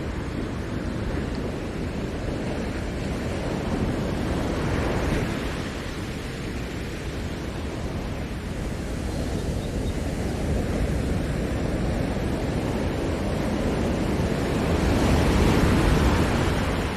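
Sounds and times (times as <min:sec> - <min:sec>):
ocean waves breaking: 0:00.0 - 0:16.9.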